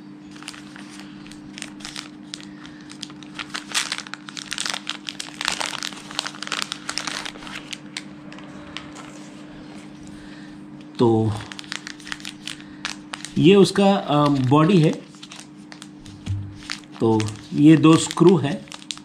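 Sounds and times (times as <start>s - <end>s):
steady low hum: 0.0s - 18.9s
plastic packaging crinkling: 0.3s - 9.2s, 10.9s - 19.0s.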